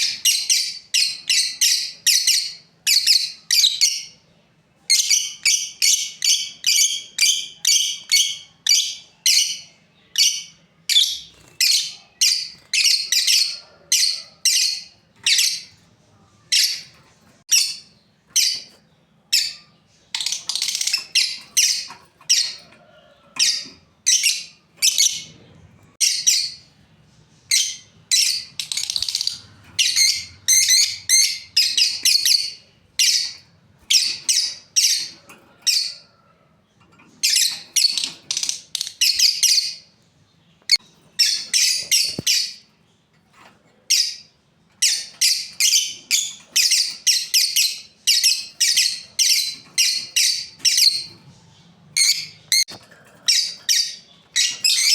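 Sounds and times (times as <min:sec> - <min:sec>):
lovebirds chirping: 0:00.0 - 0:54.9.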